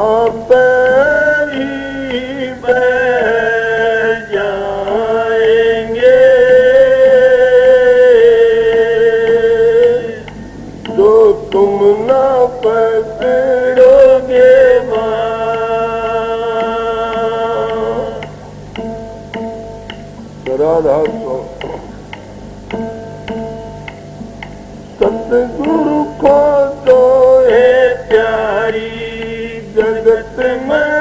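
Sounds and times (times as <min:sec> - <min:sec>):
man singing a hymn: 0:00.0 - 0:18.4, 0:20.5 - 0:21.9, 0:25.0 - 0:31.0.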